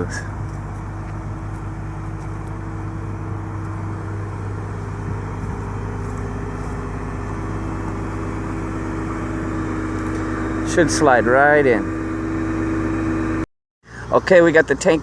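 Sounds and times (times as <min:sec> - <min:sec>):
large vehicle engine droning: 0:00.0 - 0:14.8.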